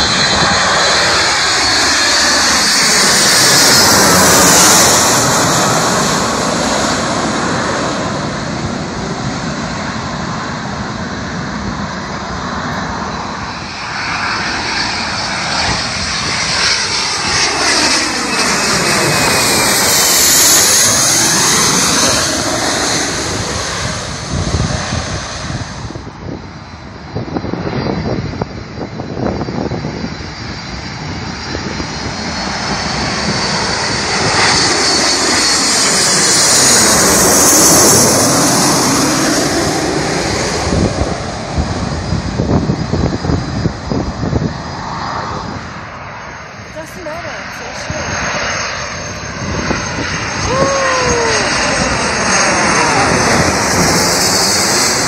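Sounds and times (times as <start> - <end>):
jet airliner engine roar: 0.0 - 55.0
second jet engine noise: 0.0 - 55.0.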